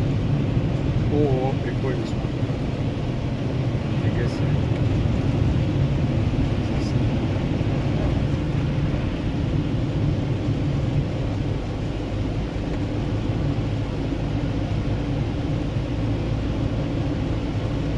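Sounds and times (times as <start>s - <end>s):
car engine and road noise drone: 0.0s - 17.9s.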